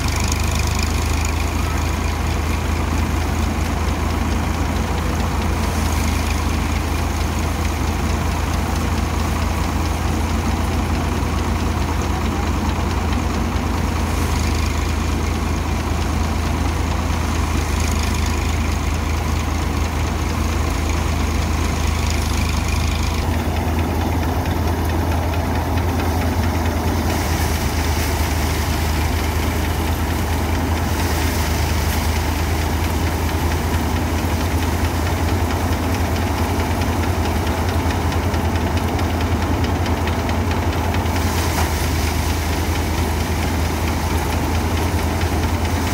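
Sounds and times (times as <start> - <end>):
engine low hum: 0.0 - 45.9
threshing machine rattle: 0.0 - 45.9.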